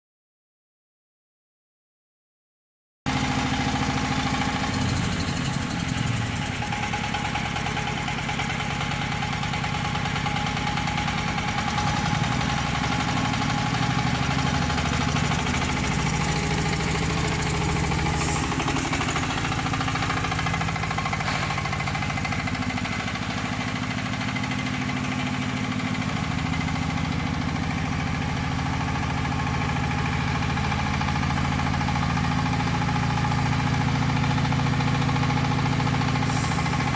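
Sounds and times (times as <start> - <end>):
tractor engine running: 3.1 - 36.9.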